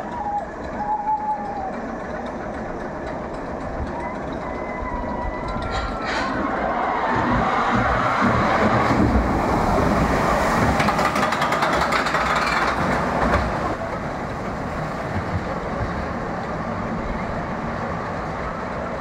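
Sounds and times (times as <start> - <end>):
roller coaster rattling on track: 0.0 - 19.0.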